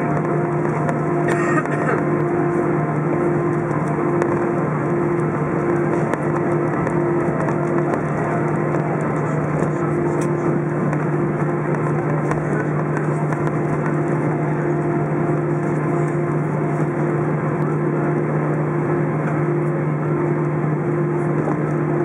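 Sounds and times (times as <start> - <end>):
broad cabin rush: 0.0 - 21.9
jet engines humming: 0.0 - 22.0.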